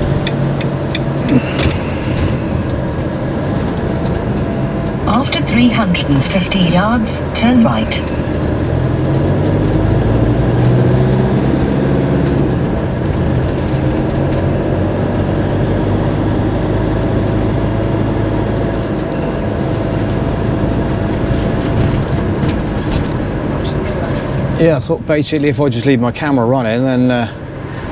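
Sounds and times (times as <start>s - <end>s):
diesel engine drone: 0.0s - 27.9s
road noise: 0.0s - 27.9s.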